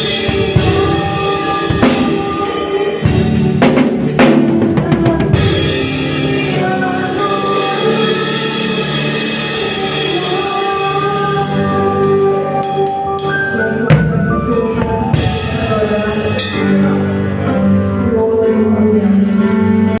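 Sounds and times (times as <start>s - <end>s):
drum kit playing: 0.0s - 18.1s
backing song with held tones: 0.0s - 20.0s.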